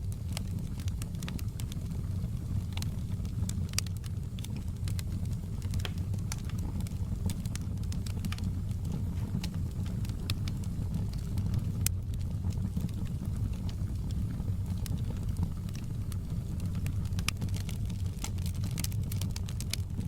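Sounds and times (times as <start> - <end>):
log fire crackling: 0.0 - 20.0
low rumble of flames: 0.0 - 20.0.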